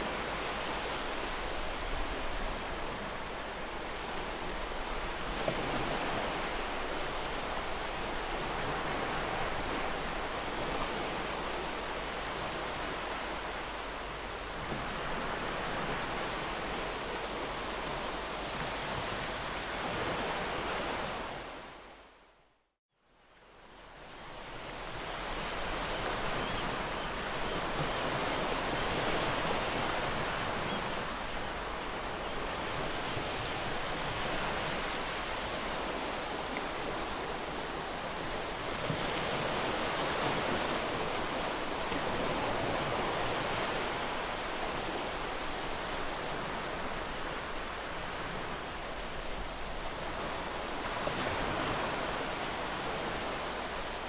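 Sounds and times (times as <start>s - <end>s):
waves breaking on shore: 0.0s - 22.3s, 23.4s - 54.0s.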